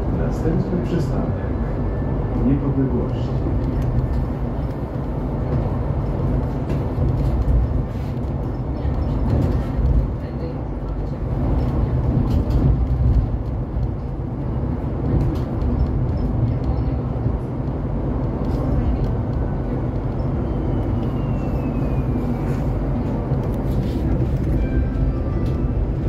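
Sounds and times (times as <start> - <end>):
low rumble of bus running gear: 0.0 - 26.0.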